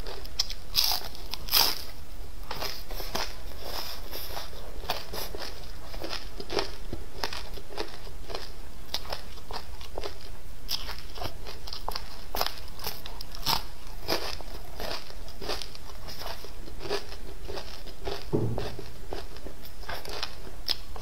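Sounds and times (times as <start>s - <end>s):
crunching and chewing fried fish: 0.0s - 21.0s.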